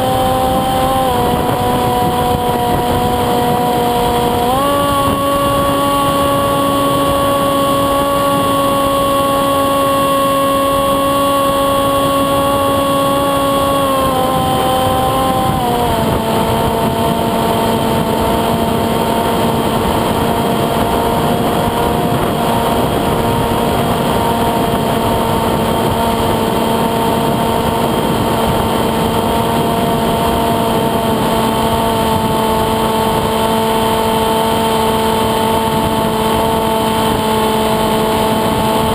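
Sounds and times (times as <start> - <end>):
electric motor and propeller humming: 0.0 - 38.9
rushing air: 0.0 - 38.9.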